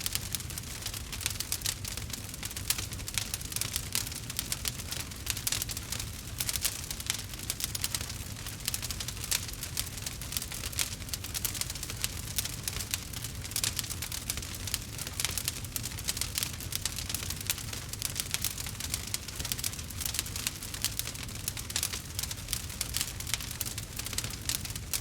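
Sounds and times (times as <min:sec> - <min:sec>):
low rumble of flames: 0:00.0 - 0:25.0.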